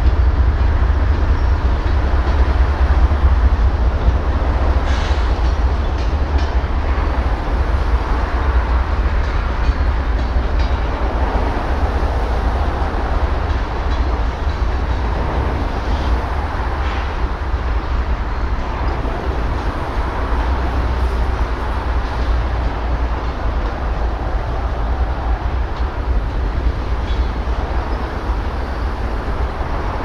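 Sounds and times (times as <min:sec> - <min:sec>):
diesel locomotives rumbling: 0:00.0 - 0:30.0.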